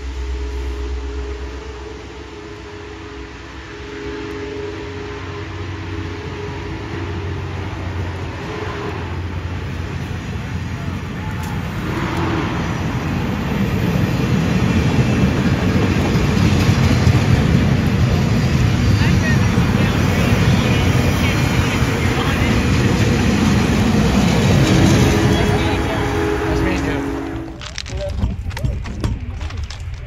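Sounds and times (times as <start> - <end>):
train cars rolling on rails: 0.0 - 30.0.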